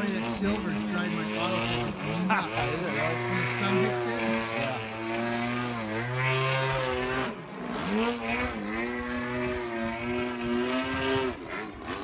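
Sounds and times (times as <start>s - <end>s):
model airplane engine overhead: 0.0s - 12.0s.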